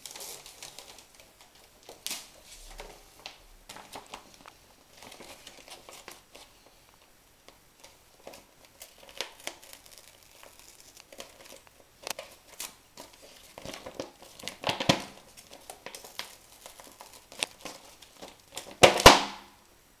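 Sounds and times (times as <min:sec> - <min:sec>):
plastic film crinkling: 0:00.0 - 0:19.6.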